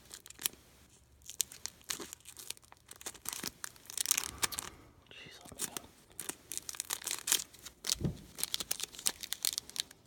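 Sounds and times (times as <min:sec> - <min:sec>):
plastic wrapper tearing and crinkling: 0:00.0 - 0:04.8, 0:05.4 - 0:10.0.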